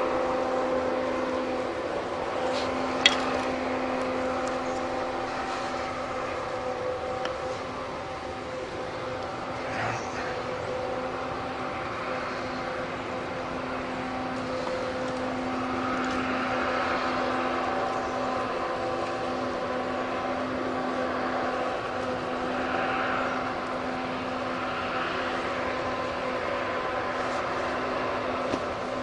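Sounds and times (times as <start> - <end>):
combine harvester engine hum: 0.0 - 29.0.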